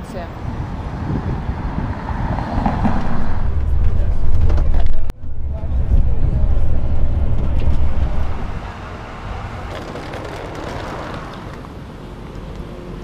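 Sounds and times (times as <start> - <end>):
bus engine and road rumble: 0.0 - 13.0
city traffic noise: 0.0 - 13.0.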